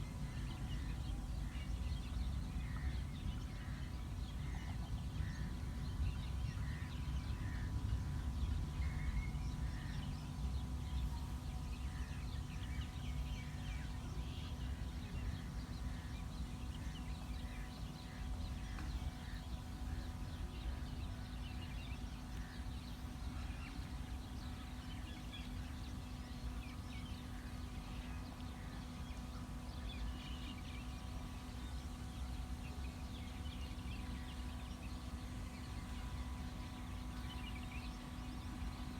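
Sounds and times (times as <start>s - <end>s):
faint hum: 0.0s - 38.9s.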